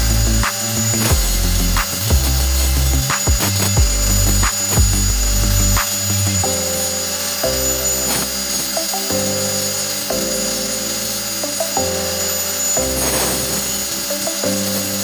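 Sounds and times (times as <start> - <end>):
angle grinder cutting stone: 0.0 - 15.0
background music: 0.0 - 15.0.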